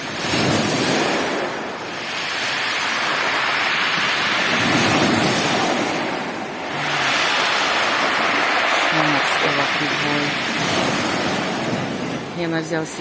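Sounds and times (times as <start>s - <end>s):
waves breaking: 0.0s - 13.0s
wind buffeting microphone: 0.0s - 13.0s.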